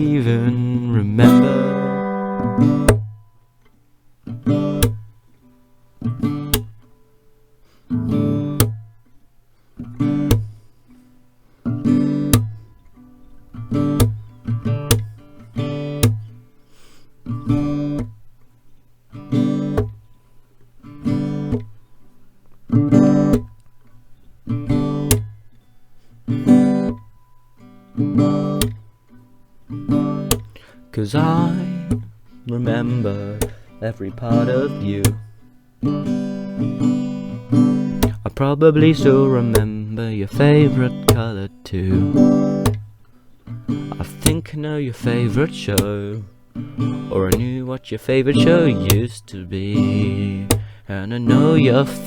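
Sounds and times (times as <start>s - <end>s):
acoustic guitar strumming: 0.0s - 52.0s.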